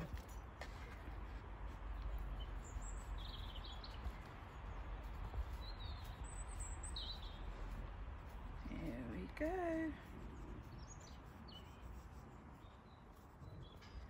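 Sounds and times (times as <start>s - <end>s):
low outdoor rumble: 0.0s - 12.5s
small birds chirping: 0.0s - 14.0s.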